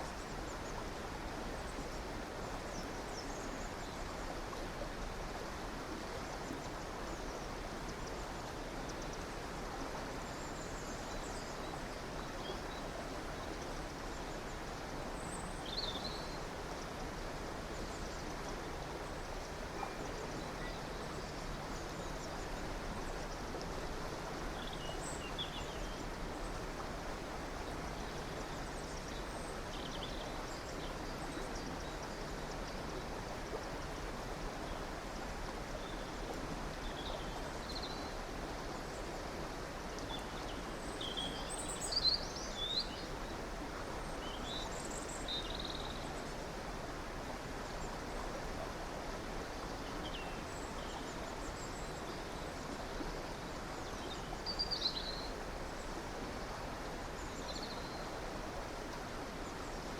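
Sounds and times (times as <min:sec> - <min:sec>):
river running: 0:00.0 - 0:59.9.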